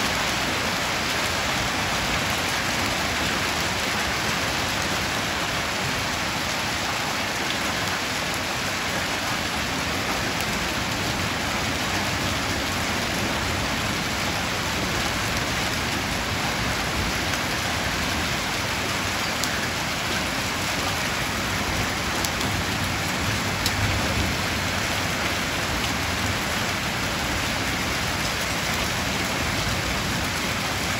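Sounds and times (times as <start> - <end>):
heavy rain and hail: 0.0 - 30.9.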